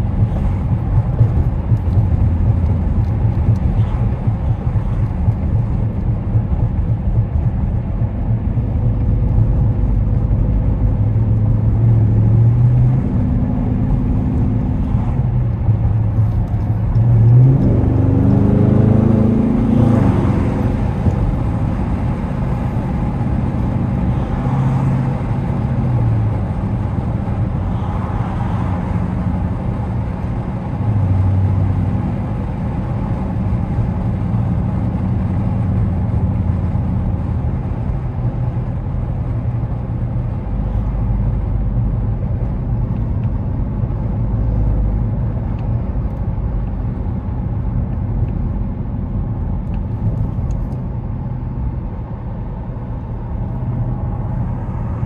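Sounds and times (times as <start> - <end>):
road noise inside car cabin: 0.0 - 55.0.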